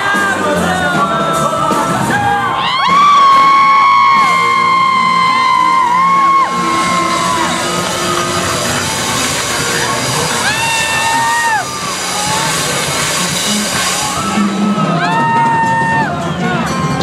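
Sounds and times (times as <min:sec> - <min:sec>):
live band with accordion and drums: 0:00.0 - 0:17.0.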